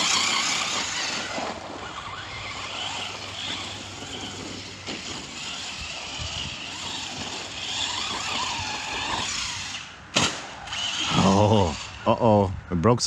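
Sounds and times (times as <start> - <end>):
rc truck electric motor whining: 0.0 - 12.1.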